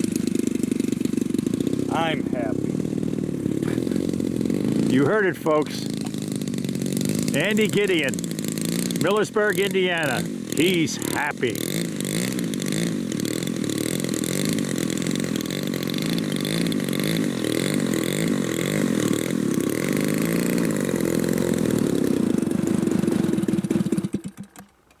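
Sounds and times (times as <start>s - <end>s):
model plane engine idling: 0.0s - 25.0s.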